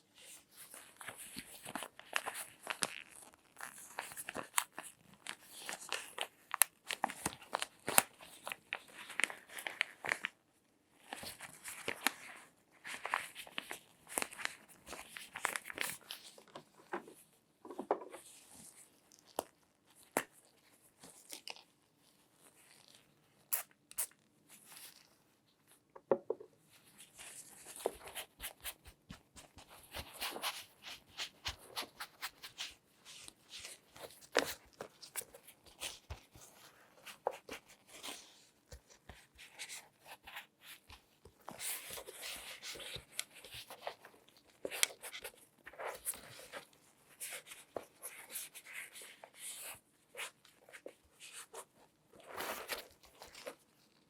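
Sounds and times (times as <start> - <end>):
crinkly rustling: 0.1 - 25.8, 26.6 - 54.0.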